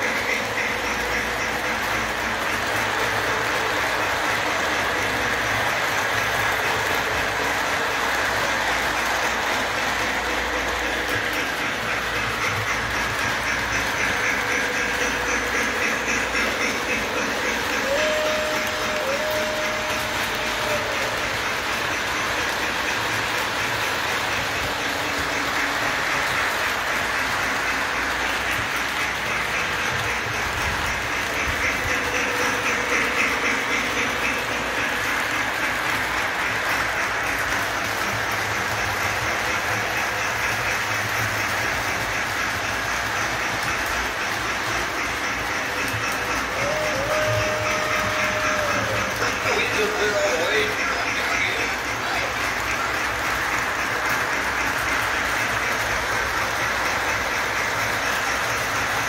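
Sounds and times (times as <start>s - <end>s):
model train rolling rumble: 0.0s - 59.0s.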